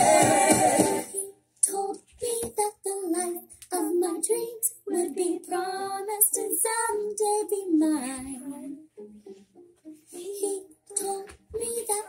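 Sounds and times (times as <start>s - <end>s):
young girl singing: 1.0s - 9.3s, 10.0s - 12.0s.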